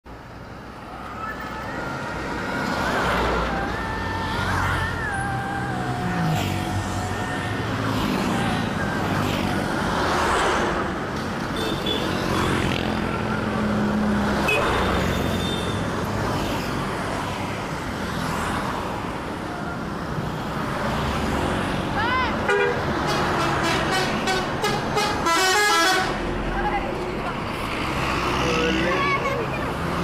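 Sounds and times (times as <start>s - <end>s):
vehicles passing: 0.0s - 30.0s.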